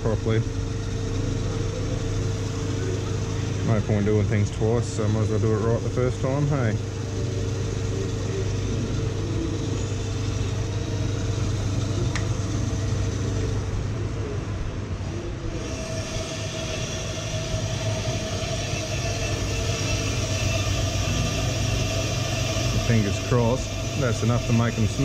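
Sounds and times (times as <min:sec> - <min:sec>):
brake lathe running: 0:00.0 - 0:25.0.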